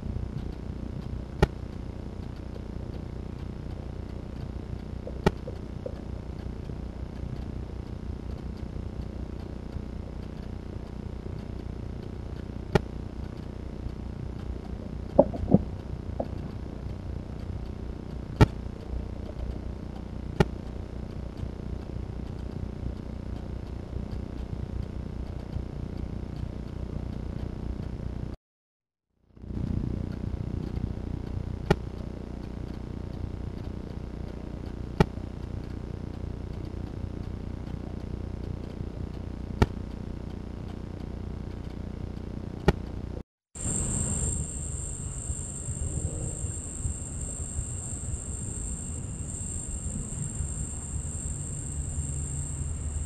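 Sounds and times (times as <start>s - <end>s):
low background rumble: 0.0s - 28.4s, 29.3s - 53.0s.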